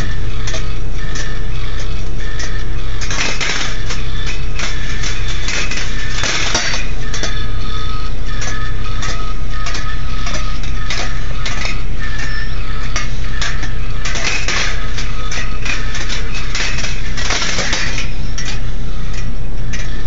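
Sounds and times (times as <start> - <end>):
steel balls rolling on wire: 0.0 - 20.0.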